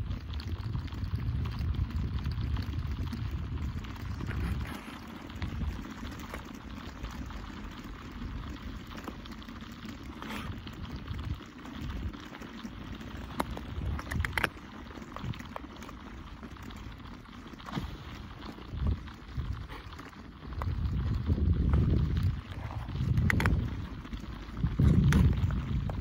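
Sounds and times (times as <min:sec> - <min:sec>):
ice crackling: 0:00.0 - 0:26.0
low rumble: 0:00.0 - 0:26.0
water gurgling: 0:00.0 - 0:26.0
ice snapping: 0:00.2 - 0:26.0.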